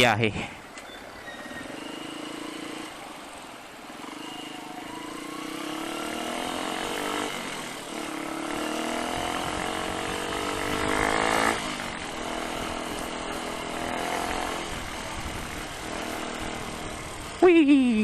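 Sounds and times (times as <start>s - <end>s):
motorcycle engine accelerating: 1.4s - 18.0s.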